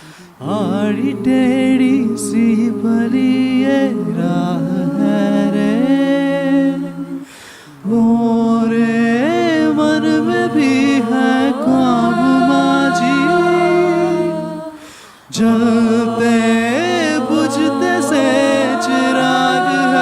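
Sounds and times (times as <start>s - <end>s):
a cappella group singing harmony: 0.0s - 20.0s.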